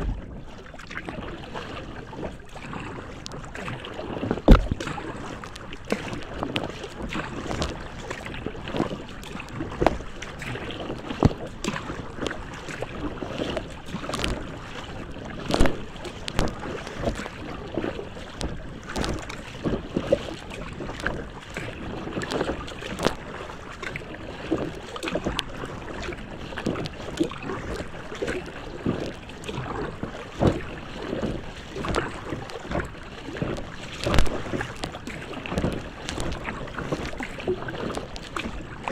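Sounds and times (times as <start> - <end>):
water slapping against kayak: 0.0 - 38.9.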